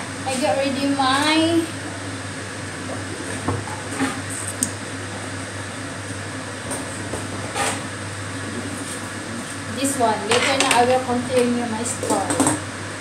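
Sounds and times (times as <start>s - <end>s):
kitchen machinery humming: 0.0s - 13.0s.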